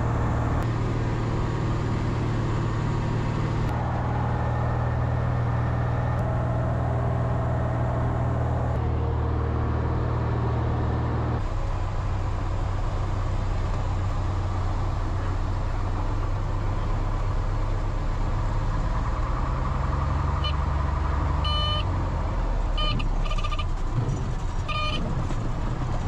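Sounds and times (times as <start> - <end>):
plane engine and propeller: 0.0 - 26.0.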